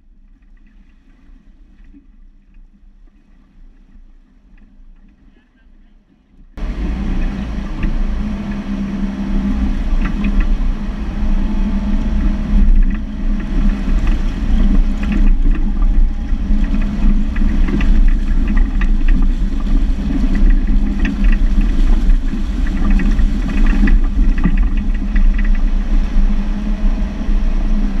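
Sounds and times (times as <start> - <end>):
engine low rumble: 0.0 - 28.0.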